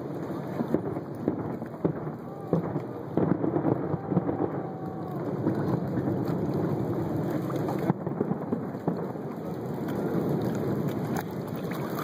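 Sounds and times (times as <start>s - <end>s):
distant fireworks rumble: 0.0s - 12.0s
faint firework pops and crackles: 0.0s - 12.0s.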